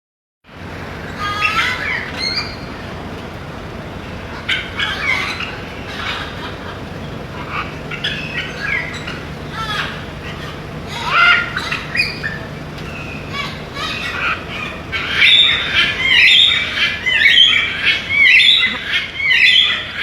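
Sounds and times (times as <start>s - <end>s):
birds chirping: 0.5s - 20.0s.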